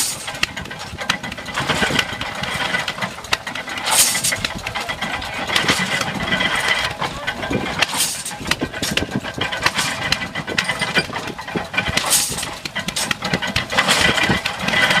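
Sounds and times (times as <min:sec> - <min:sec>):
hay baler clattering and knocking: 0:00.0 - 0:15.0.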